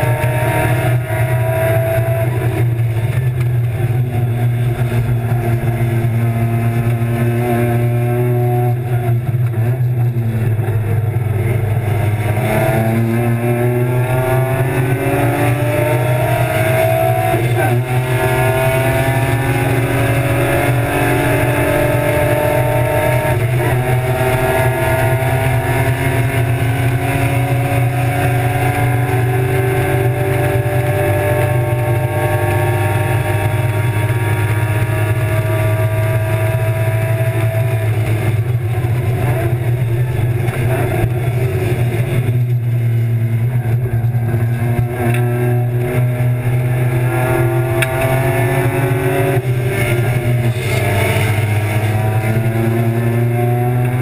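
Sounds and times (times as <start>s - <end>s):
race car engine at full load: 0.0s - 54.0s
steady low drone: 0.0s - 54.0s.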